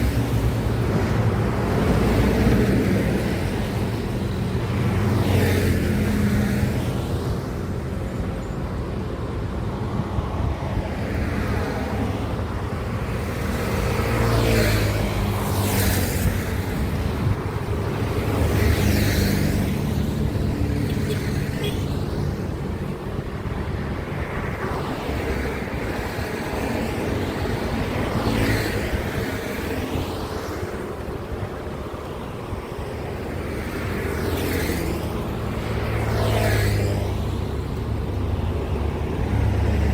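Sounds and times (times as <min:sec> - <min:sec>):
vehicles passing on highway: 0:00.0 - 0:39.9.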